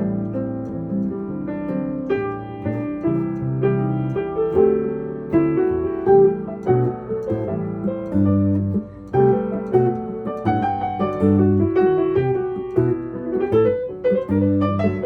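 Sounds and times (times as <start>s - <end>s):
piano playing chords and melody: 0.0s - 15.0s.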